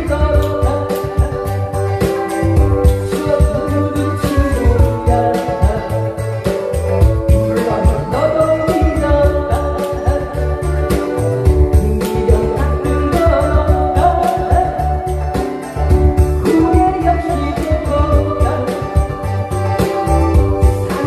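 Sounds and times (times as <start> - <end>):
backing track with bass beat: 0.0 - 21.0
woman singing: 0.0 - 21.0.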